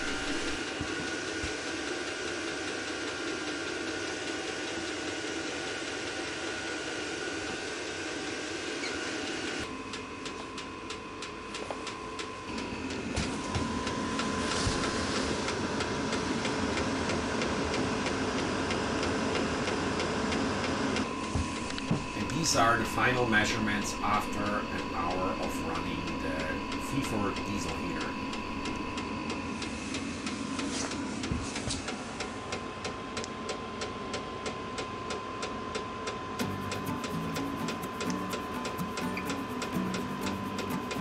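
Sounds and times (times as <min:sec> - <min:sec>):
thin steady whine: 0:00.0 - 0:03.7, 0:04.4 - 0:41.0
air heater humming: 0:00.0 - 0:41.0.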